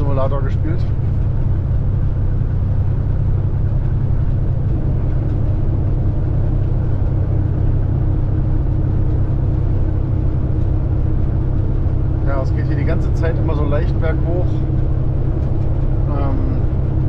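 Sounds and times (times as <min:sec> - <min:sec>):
diesel truck engine under load: 0:00.0 - 0:17.0
engine cooling fan: 0:00.0 - 0:17.0.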